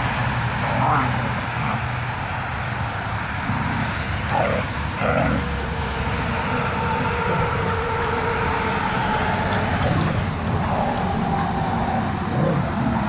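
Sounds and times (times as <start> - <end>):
steady droning tone: 0.0 - 13.0.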